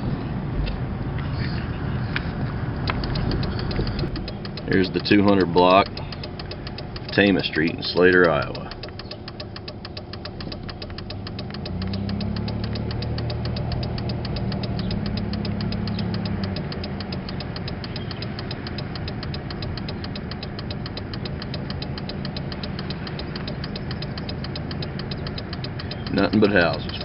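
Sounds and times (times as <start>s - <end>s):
car engine running: 1.8s - 27.0s
fast even ticking: 2.8s - 27.0s.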